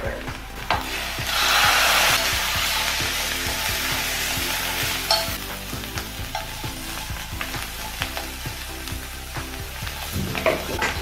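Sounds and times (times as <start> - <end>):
mushrooms sizzling in a frying pan: 0.0 - 11.0.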